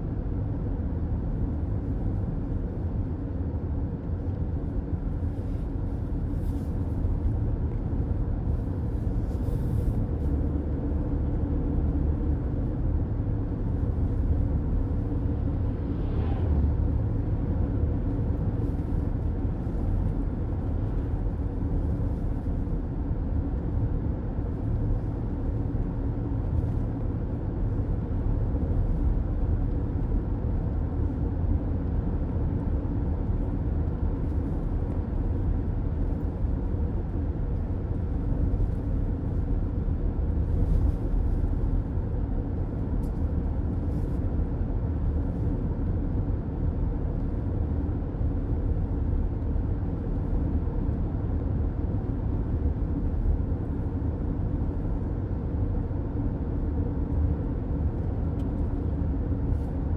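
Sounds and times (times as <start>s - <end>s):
car road noise from inside: 0.1s - 59.9s.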